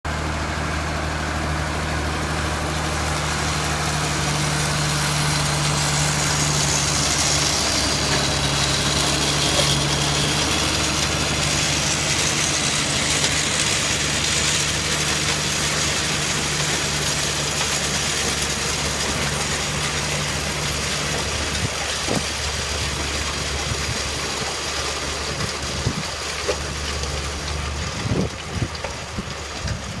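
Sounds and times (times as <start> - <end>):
machine engine hum: 0.1 - 30.0
mechanical working noise: 0.1 - 30.0.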